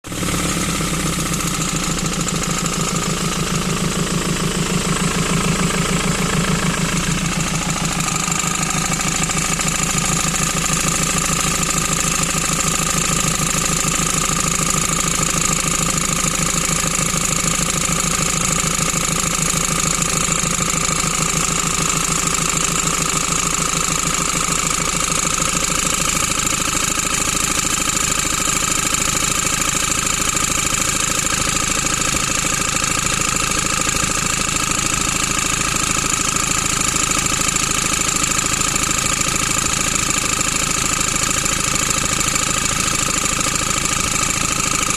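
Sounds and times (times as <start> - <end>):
diesel engine idling with knocking: 0.0 - 44.9.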